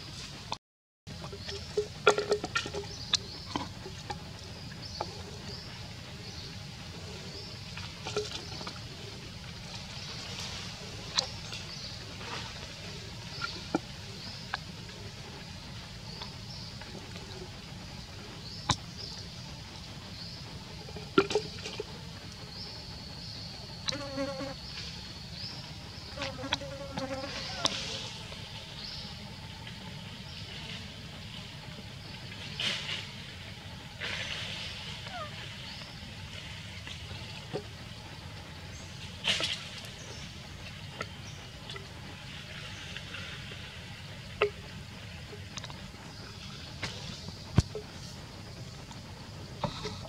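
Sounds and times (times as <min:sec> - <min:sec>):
steady low rumble: 0:00.0 - 0:26.4, 0:27.2 - 0:50.0
insects droning: 0:01.1 - 0:50.0.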